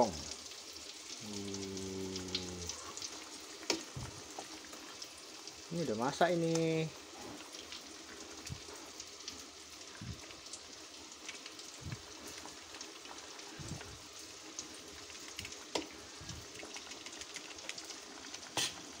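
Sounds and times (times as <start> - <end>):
curry bubbling in a pot: 0.0 - 19.0.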